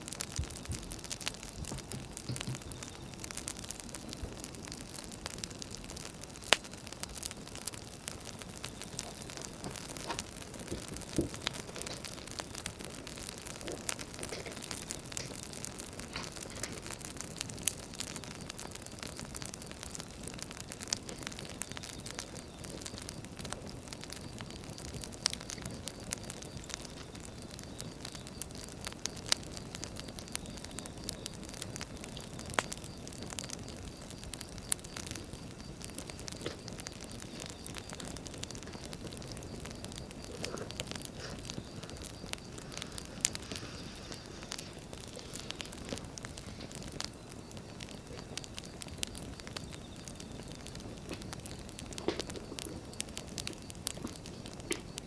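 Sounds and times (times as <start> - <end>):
flames rumbling: 0.0 - 55.0
wood fire crackling: 0.0 - 55.0.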